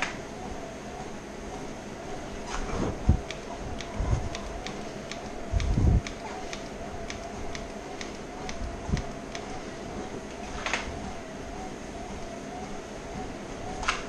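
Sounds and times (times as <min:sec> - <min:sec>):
treadmill motor whine: 0:00.0 - 0:14.0.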